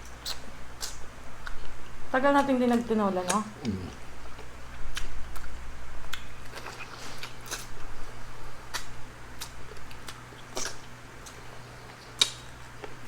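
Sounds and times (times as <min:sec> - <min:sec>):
chewing with sharp clicks: 0:00.0 - 0:07.9, 0:08.7 - 0:13.0.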